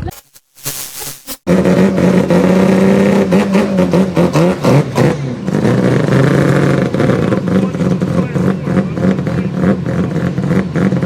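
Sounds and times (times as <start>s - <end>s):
car engine revving high: 1.5s - 11.0s.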